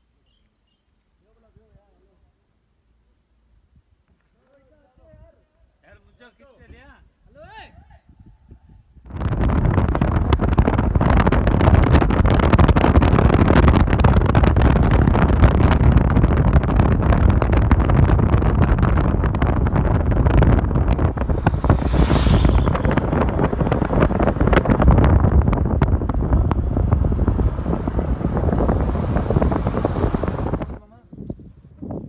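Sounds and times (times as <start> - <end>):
wind buffeting microphone: 4.9 - 32.0.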